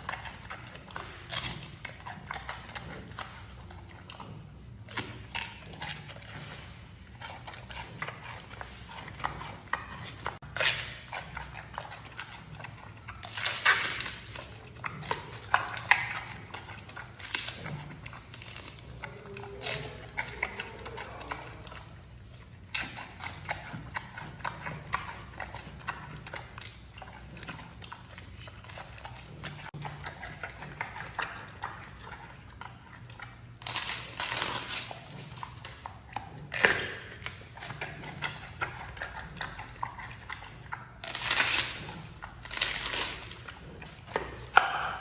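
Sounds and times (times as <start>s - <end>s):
panda crunching bamboo: 0.0s - 45.0s.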